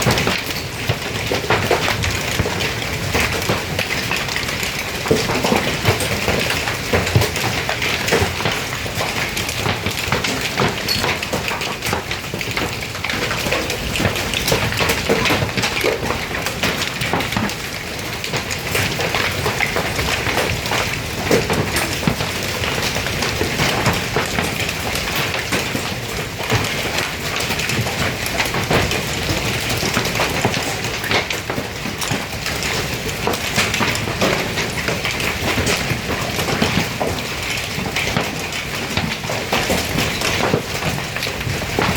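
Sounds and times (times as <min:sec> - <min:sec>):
hailstones clattering on hard surfaces: 0:00.0 - 0:41.9.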